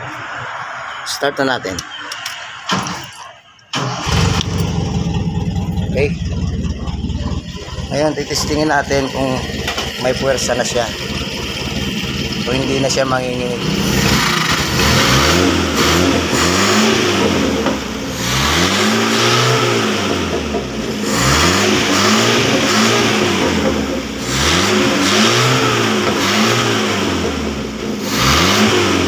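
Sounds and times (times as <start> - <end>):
petrol engine revving: 1.6 - 29.0.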